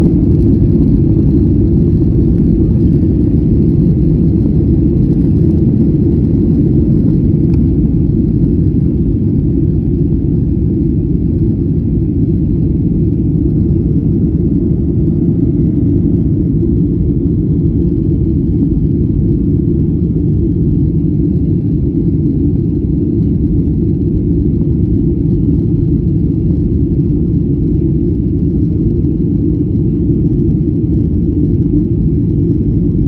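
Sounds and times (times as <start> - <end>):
airliner cabin engine drone: 0.0 - 33.0.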